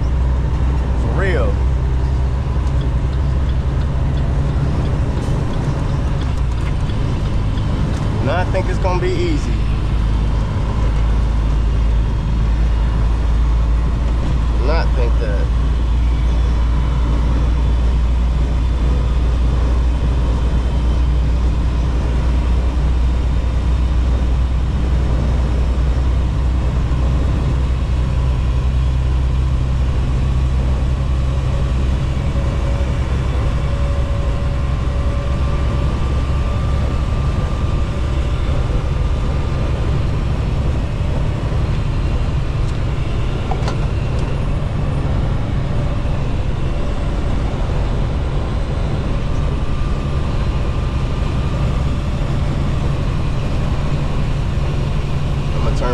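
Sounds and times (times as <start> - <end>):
faint whining tones: 0.0 - 55.9
truck engine and road noise: 0.0 - 55.9.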